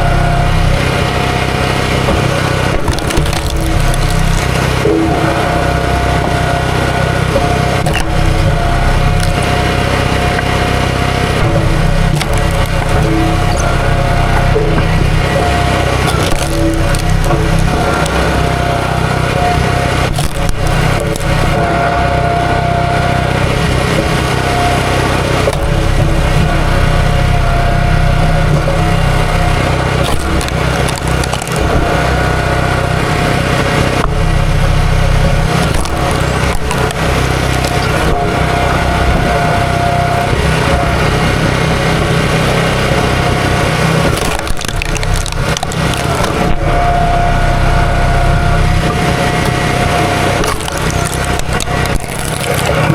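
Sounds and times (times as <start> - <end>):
small gasoline engine running: 0.0 - 52.9
wood cracking and splintering: 0.0 - 52.9.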